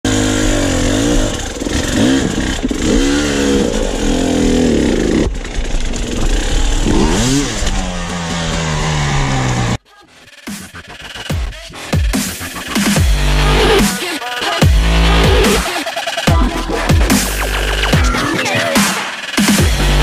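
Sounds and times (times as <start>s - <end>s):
dirt bike engine revving: 0.0s - 9.8s, 11.0s - 18.2s.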